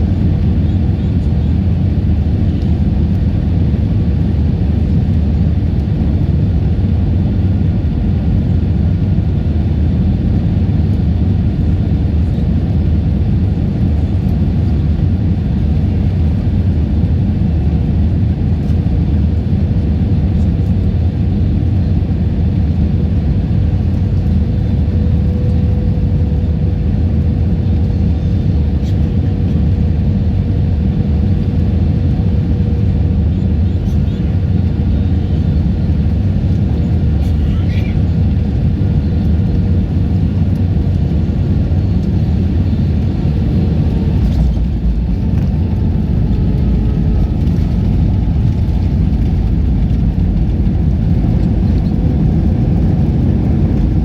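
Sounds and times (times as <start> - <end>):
aircraft cabin engine rumble: 0.0 - 54.0.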